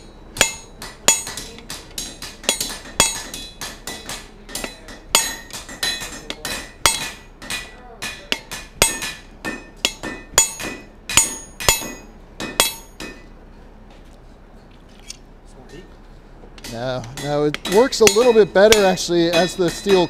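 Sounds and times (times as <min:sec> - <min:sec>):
hammer striking punch on hot steel: 0:00.0 - 0:13.3, 0:16.6 - 0:20.0.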